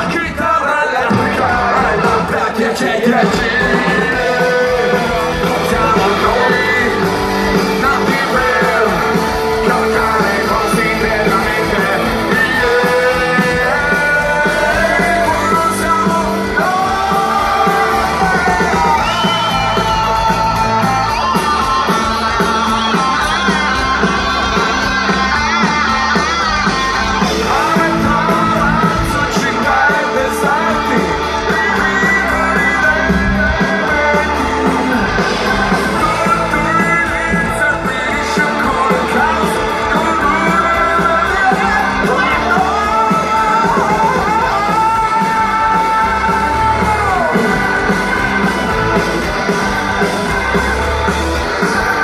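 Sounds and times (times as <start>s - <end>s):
man singing: 0.0s - 52.0s
rock band playing live: 0.0s - 52.0s.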